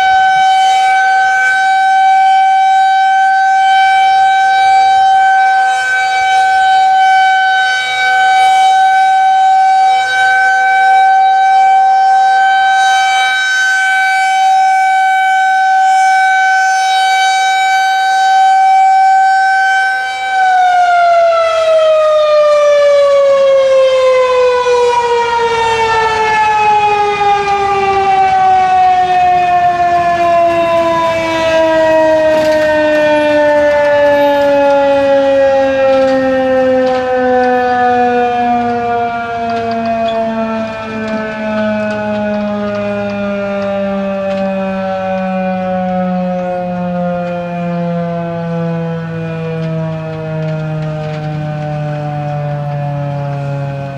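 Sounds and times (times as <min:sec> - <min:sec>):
rotating warning siren: 0:00.0 - 0:53.9.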